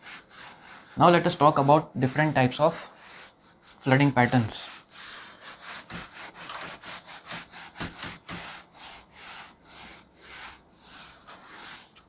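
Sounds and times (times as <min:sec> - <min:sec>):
eraser rubbing on whiteboard: 0:00.0 - 0:12.0.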